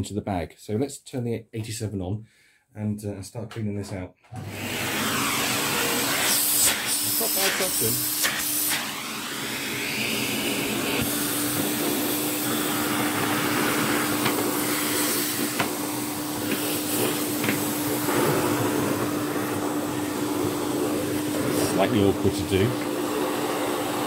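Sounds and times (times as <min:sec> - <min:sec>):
vacuum cleaner motor hum: 0:04.3 - 0:24.0
vacuum air rushing: 0:04.4 - 0:24.0.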